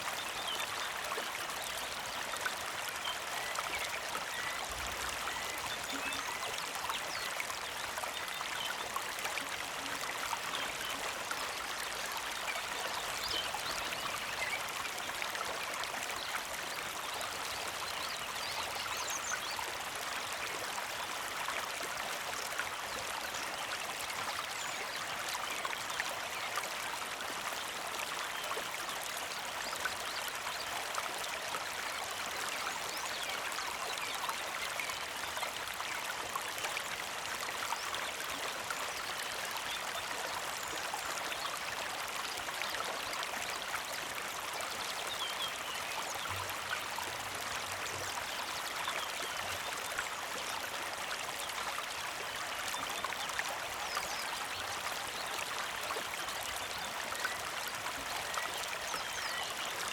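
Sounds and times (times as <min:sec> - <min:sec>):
creek flowing over stones: 0:00.0 - 0:59.9.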